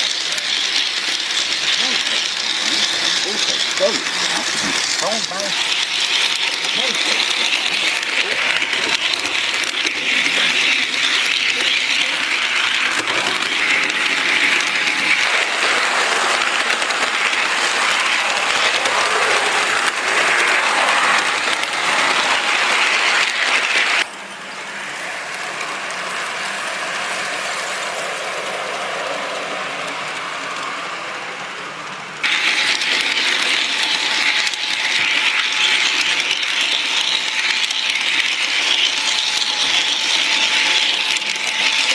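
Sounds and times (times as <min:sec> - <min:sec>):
model train clattering on rails: 0:00.0 - 0:41.9.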